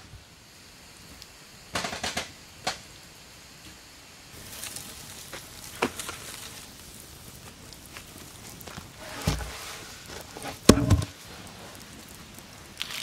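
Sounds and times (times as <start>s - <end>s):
flame hiss: 0.0s - 13.0s
log fire crackling: 0.0s - 13.0s.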